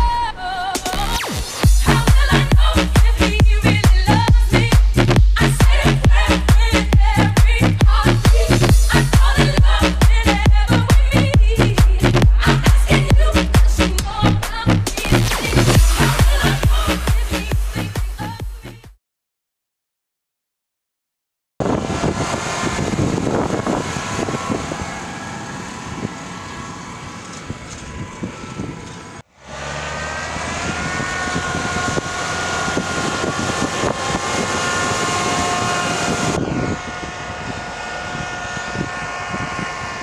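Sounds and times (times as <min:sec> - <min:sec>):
steady whine: 0:00.0 - 0:18.0, 0:21.6 - 0:40.0
tractor diesel engine under load: 0:00.0 - 0:18.4, 0:21.6 - 0:40.0.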